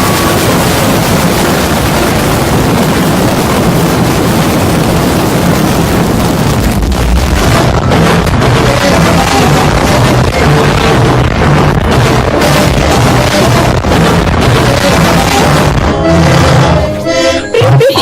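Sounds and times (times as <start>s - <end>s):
deep rumble: 0.0s - 17.1s
harsh distorted noise: 0.0s - 18.0s.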